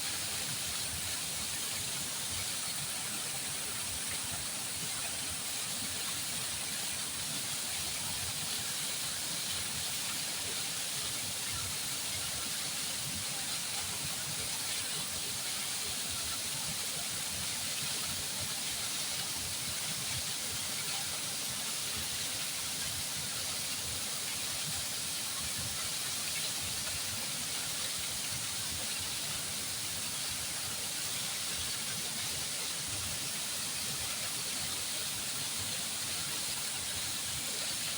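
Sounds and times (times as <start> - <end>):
flowing water rushing: 0.0 - 37.9.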